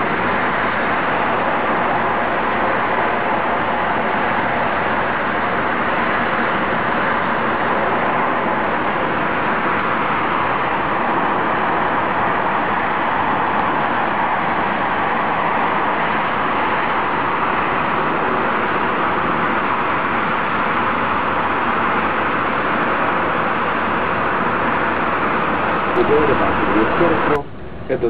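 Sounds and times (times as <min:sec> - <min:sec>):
busy road traffic noise: 0:00.0 - 0:28.0.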